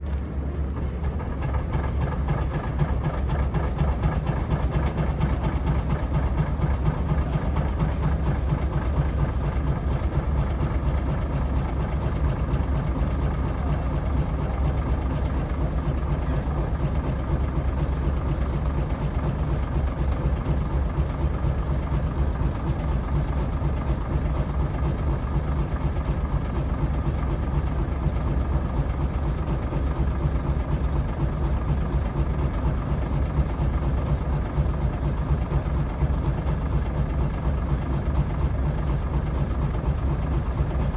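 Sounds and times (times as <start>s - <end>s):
excavator diesel engine idling: 0.0s - 40.9s.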